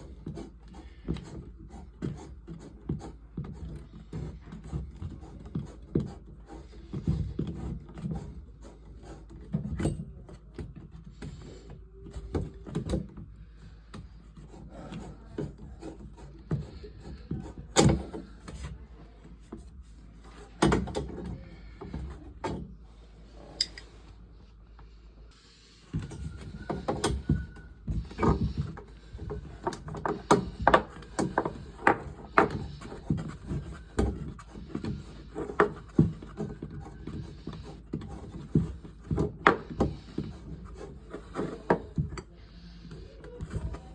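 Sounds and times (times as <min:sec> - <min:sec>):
tools knocking and scraping: 0:00.0 - 0:22.8, 0:23.5 - 0:24.1, 0:25.9 - 0:43.9.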